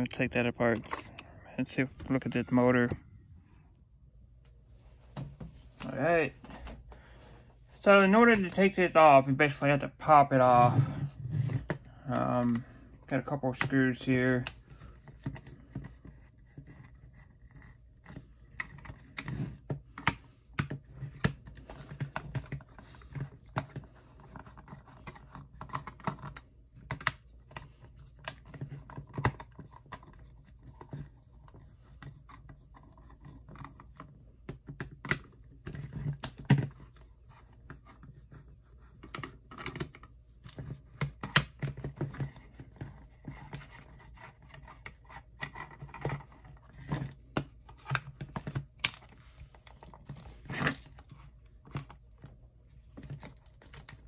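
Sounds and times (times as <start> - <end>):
plastic parts scraping and knocking: 0.2 - 3.0, 8.1 - 54.0.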